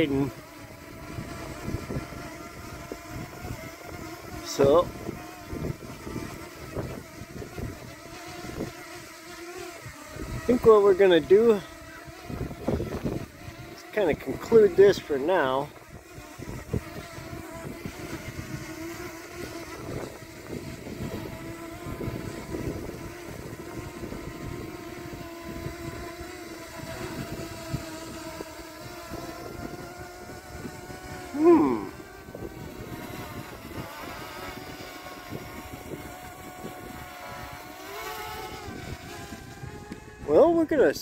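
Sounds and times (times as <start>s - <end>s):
drone propellers buzzing: 0.0s - 41.0s
faint motor-like hum: 0.0s - 41.0s
wind rumbling on microphone: 0.0s - 41.0s.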